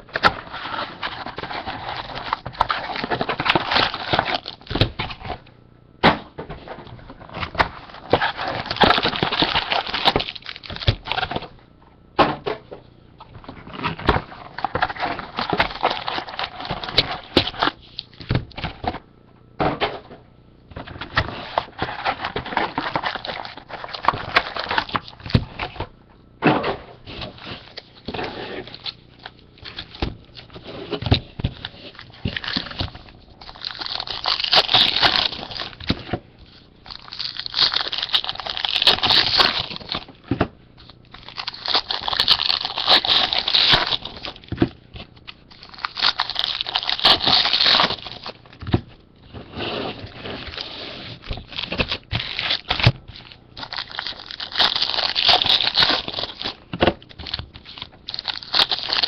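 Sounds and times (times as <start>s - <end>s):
cards and cardboard rustling: 0.0s - 5.4s, 13.2s - 19.0s, 20.7s - 25.9s, 27.0s - 59.0s
wrappers crinkling and tearing: 0.0s - 5.4s, 7.3s - 11.4s, 13.6s - 18.2s, 21.0s - 25.8s, 27.2s - 40.2s, 40.8s - 48.7s, 49.7s - 59.0s.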